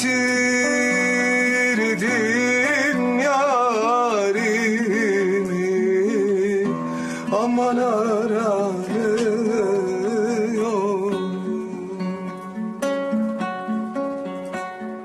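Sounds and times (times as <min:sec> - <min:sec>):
man singing folk song: 0:00.0 - 0:13.3
acoustic guitar: 0:00.0 - 0:15.0.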